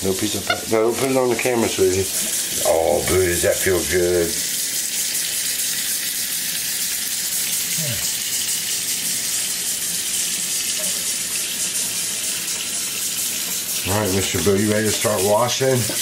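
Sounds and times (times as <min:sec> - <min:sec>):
faucet water splashing into sink: 0:00.1 - 0:16.0.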